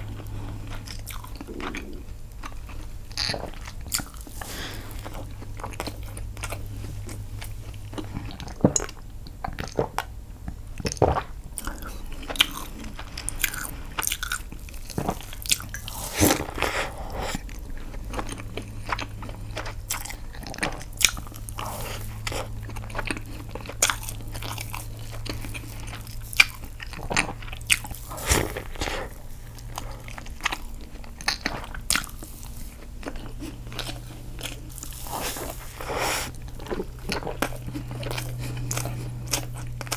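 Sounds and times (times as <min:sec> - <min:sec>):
person biting and chewing: 0:00.0 - 0:09.9, 0:10.8 - 0:39.9.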